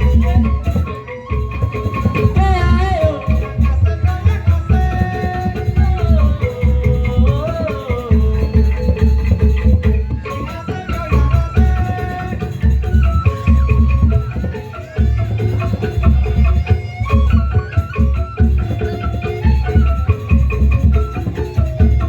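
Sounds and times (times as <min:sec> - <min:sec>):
hand-drum strokes: 0:00.0 - 0:22.0.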